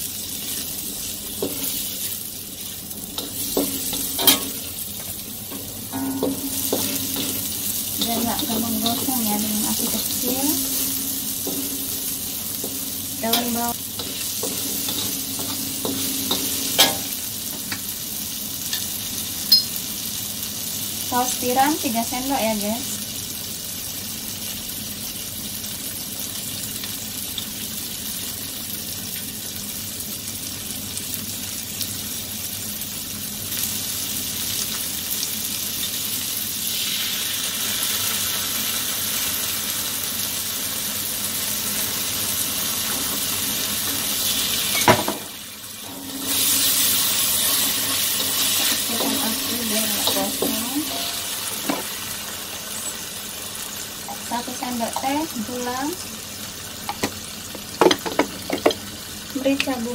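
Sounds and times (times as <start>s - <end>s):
vegetables sizzling in a wok: 0.0s - 59.9s.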